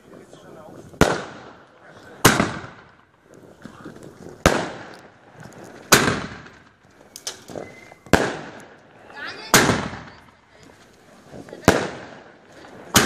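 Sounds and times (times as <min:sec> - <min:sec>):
faint fireworks pops: 0:00.0 - 0:13.0
fireworks bangs echoing: 0:00.0 - 0:13.0.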